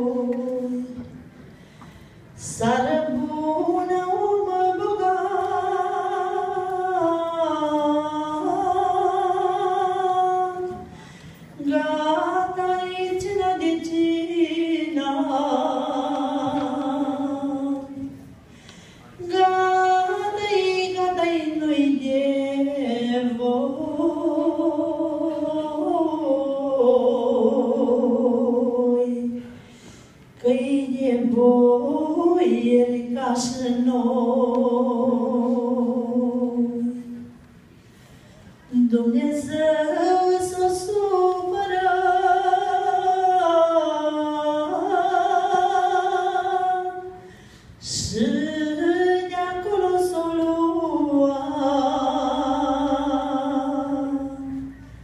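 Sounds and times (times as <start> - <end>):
woman singing unaccompanied: 0.0 - 1.1, 2.4 - 10.9, 11.6 - 18.2, 19.2 - 29.5, 30.4 - 37.4, 38.7 - 54.8.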